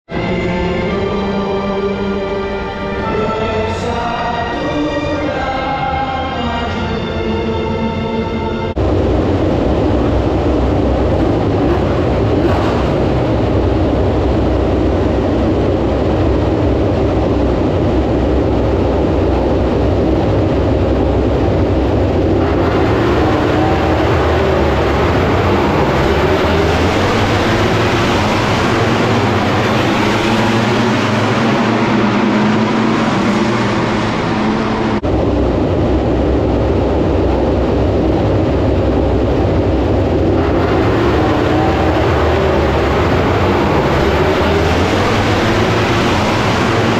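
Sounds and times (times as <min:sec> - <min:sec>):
racing motorcycles passing: 0:08.7 - 0:46.9.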